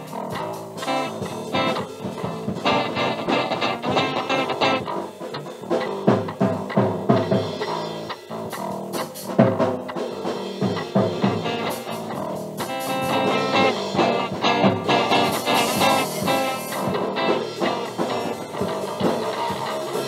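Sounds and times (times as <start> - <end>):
guitar-led music with drums: 0.0 - 20.0.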